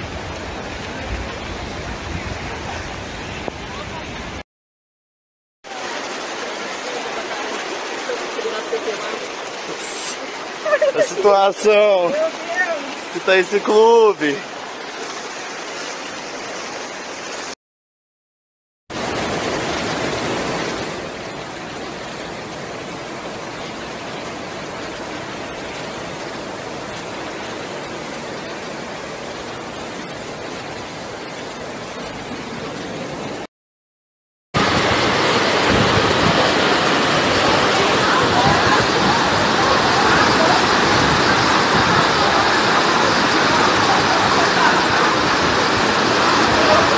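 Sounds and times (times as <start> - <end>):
floodwater rushing: 0.0 - 4.4, 5.6 - 17.6, 18.9 - 33.5, 34.6 - 46.9.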